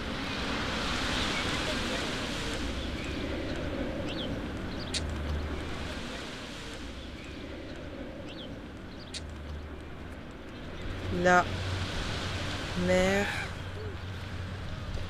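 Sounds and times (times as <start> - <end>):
sea: 0.0 - 15.0
wind: 0.0 - 15.0.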